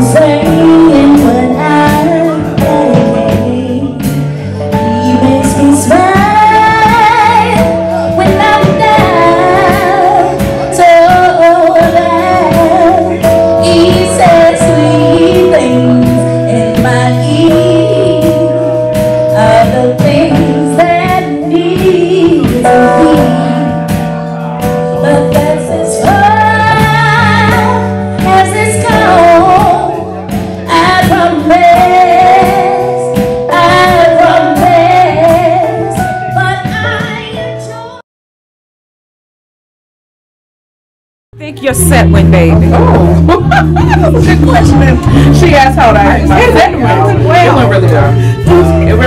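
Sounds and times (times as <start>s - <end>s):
woman singing: 0.0s - 24.0s, 25.0s - 38.0s, 41.4s - 49.0s
electric bass: 0.0s - 37.8s, 41.4s - 49.0s
drums: 0.0s - 37.9s, 41.4s - 49.0s
held chords: 0.0s - 37.9s, 41.4s - 49.0s.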